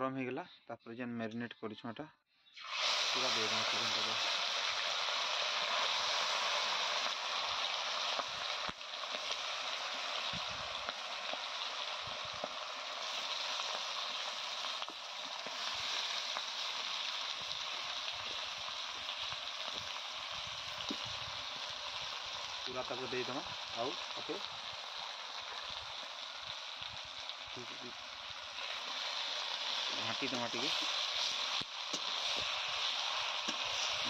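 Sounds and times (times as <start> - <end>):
chicken frying in oil: 2.6 - 34.0.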